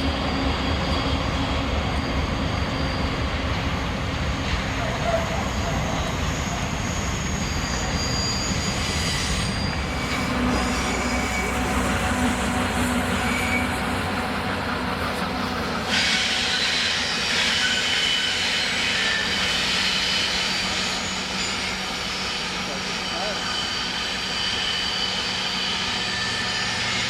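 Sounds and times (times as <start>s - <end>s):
freight train rumble: 0.0s - 27.0s
train wheels squealing on rail: 0.0s - 27.0s.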